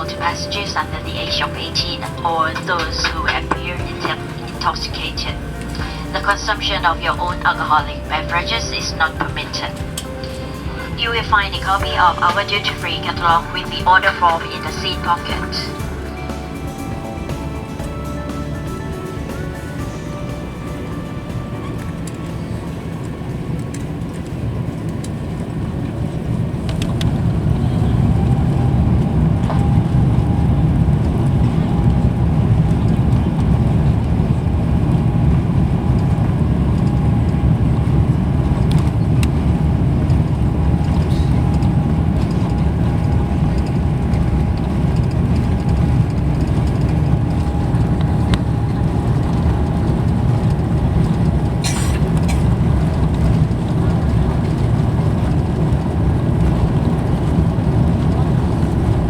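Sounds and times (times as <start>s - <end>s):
engine whine: 0.0s - 59.0s
jet engines spooling up: 0.0s - 59.0s
low rumble: 0.0s - 59.0s.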